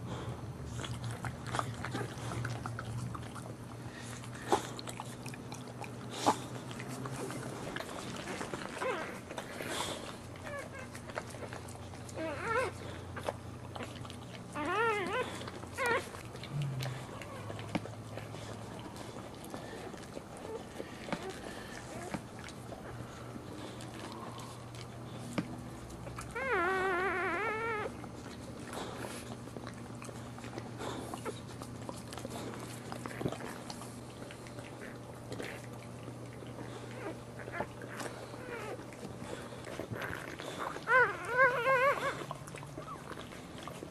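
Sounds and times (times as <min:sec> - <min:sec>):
steady low hum: 0:00.0 - 0:43.9
puppy whimpering and squealing: 0:06.7 - 0:24.8, 0:26.0 - 0:31.7, 0:32.4 - 0:43.9.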